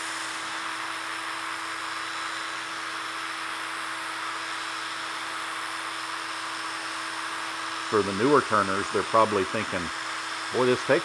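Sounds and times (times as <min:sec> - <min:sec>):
cordless drill motor whine: 0:00.0 - 0:11.0
hiss of sanding wood: 0:00.0 - 0:11.0.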